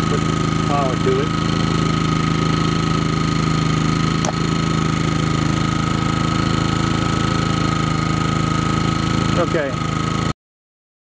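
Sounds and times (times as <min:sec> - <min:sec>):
generator engine running: 0:00.0 - 0:10.4.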